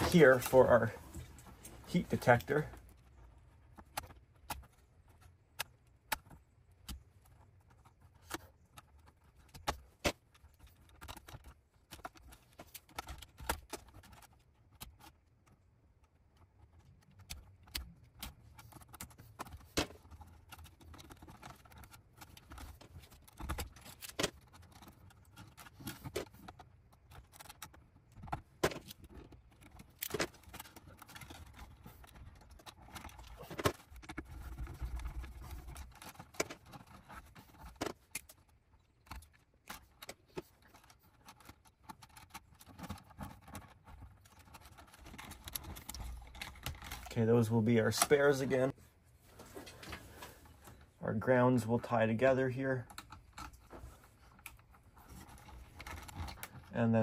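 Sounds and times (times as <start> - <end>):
wires rustling against plastic box: 0.0 - 57.0.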